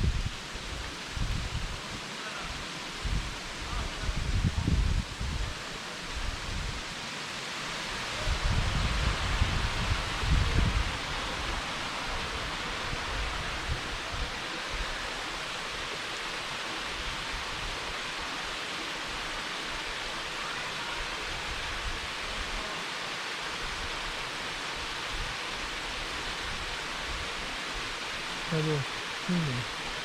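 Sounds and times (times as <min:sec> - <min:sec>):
waterfall hiss: 0:00.0 - 0:30.0.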